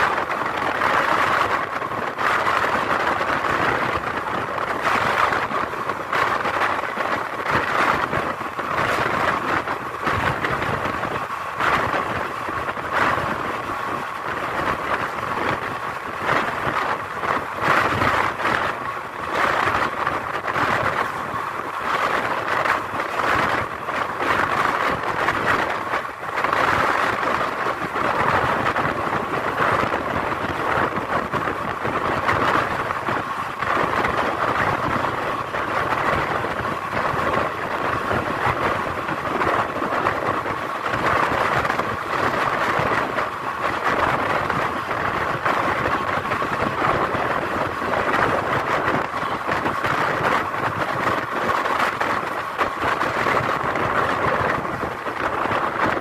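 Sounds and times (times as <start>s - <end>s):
train wheels running on track: 0.0s - 56.0s.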